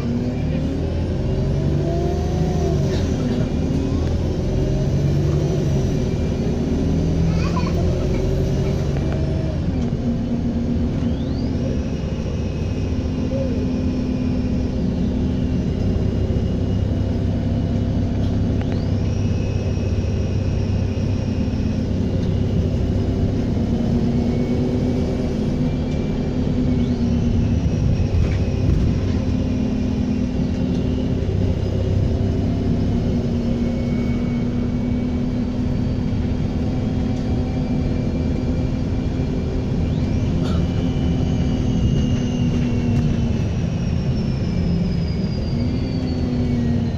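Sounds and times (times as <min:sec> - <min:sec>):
bus diesel engine rumbling: 0:00.0 - 0:46.9
turbocharger whistling whine: 0:00.0 - 0:46.9.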